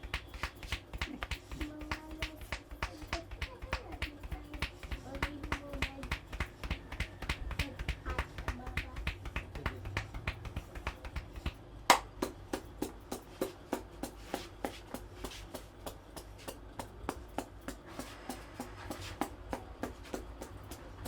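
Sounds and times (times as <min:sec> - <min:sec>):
hands tapping on a head: 0:00.0 - 0:21.0.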